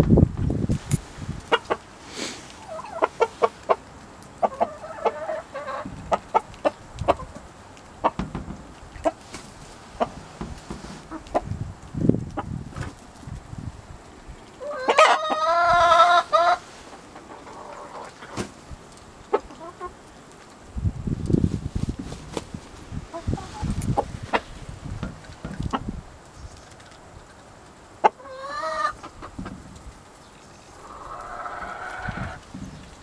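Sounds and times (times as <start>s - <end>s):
hens clucking: 1.3s - 11.7s, 14.5s - 20.2s, 22.0s - 27.4s, 28.0s - 33.0s.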